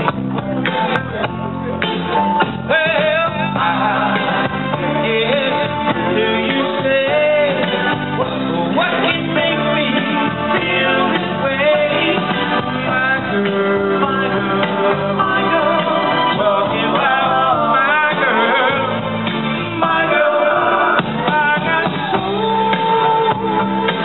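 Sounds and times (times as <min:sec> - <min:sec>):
backing music with guitar: 0:00.0 - 0:24.0
man singing into microphone: 0:02.7 - 0:24.0.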